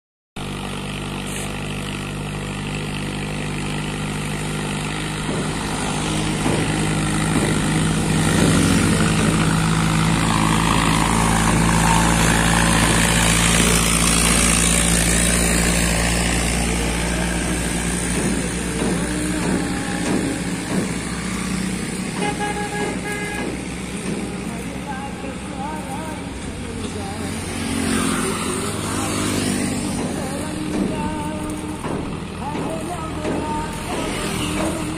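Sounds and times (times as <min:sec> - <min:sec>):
diesel tractor engine passing: 0:00.4 - 0:34.9.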